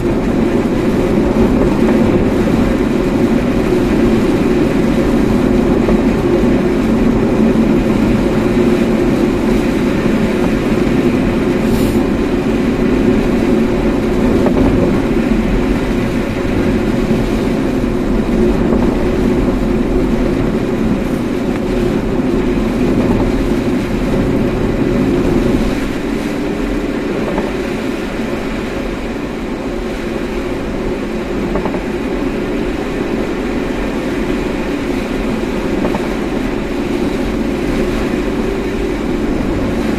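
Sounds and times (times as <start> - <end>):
car driving road noise: 0.0 - 39.9.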